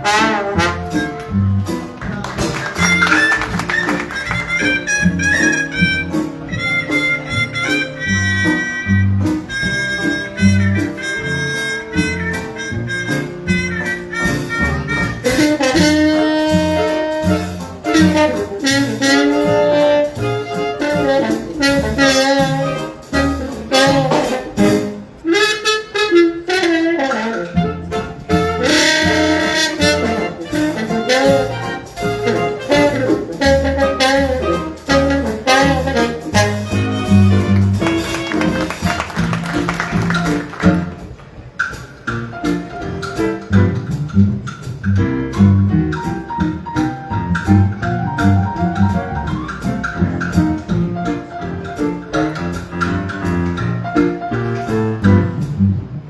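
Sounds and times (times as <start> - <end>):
bass line: 0.0 - 26.5, 27.4 - 56.0
jazz ensemble playing: 0.0 - 56.0
wind instruments melody: 0.0 - 56.0.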